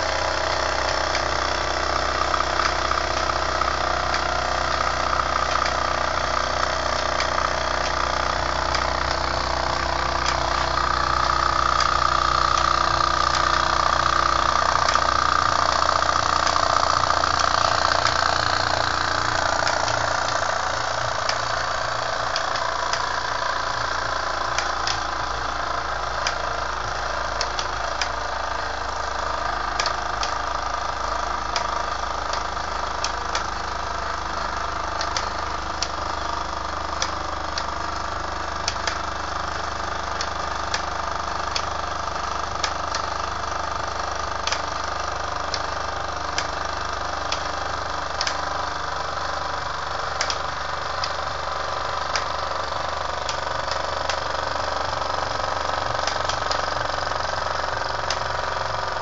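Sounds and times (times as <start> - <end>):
toy steam engine running: 0.0 - 59.0.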